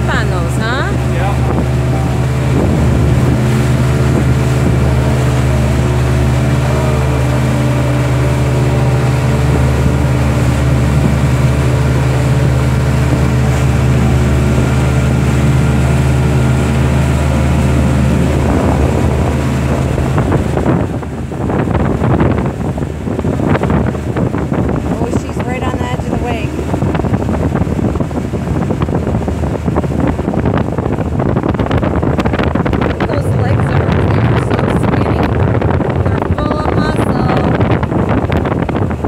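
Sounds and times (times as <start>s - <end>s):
outboard motor running: 0.0s - 39.0s
water rushing: 0.0s - 39.0s
wind buffeting microphone: 0.0s - 39.0s.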